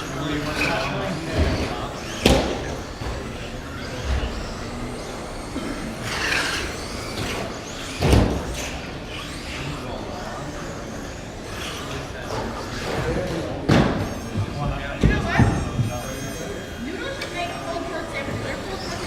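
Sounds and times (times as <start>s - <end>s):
electric rc trucks racing: 0.0s - 19.0s.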